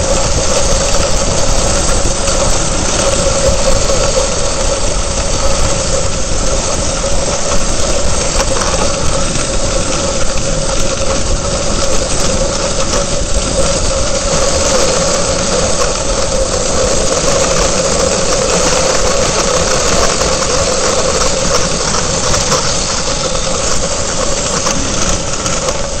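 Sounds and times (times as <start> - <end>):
sled runners scraping snow: 0.0 - 26.0
wind rushing over camera: 0.0 - 26.0.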